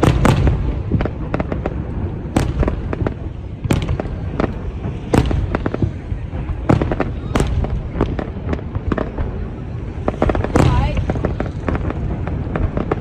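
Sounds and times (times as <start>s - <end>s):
loud firework bangs: 0.0s - 13.0s
rumble of firework bursts: 0.0s - 13.0s.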